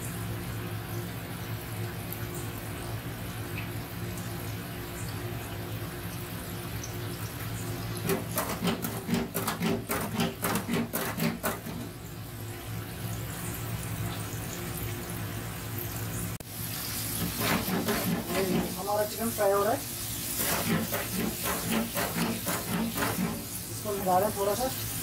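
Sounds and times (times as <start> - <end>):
oil bubbling in deep fryer: 0.0 - 25.0.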